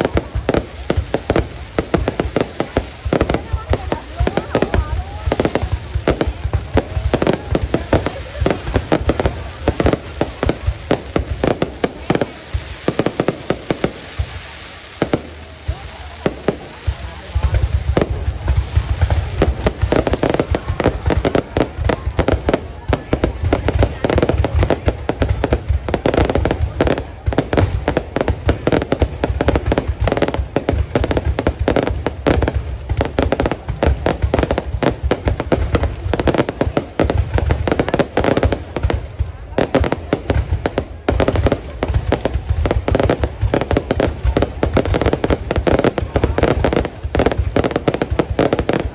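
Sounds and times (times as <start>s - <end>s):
deep rumble of booms: 0.0s - 48.9s
fireworks bangs: 0.0s - 48.9s.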